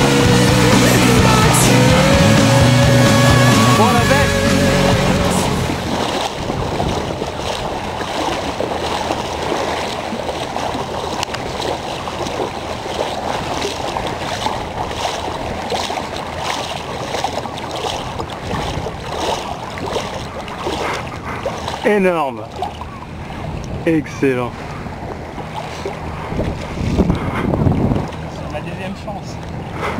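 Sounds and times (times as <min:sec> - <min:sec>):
water sloshing around boat: 0:01.7 - 0:29.9
wind on microphone: 0:01.8 - 0:21.8, 0:24.5 - 0:28.5.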